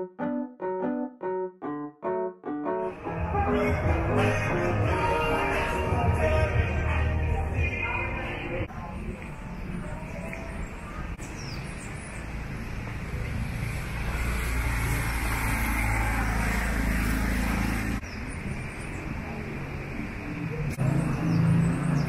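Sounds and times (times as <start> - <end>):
street traffic: 2.8 - 22.0.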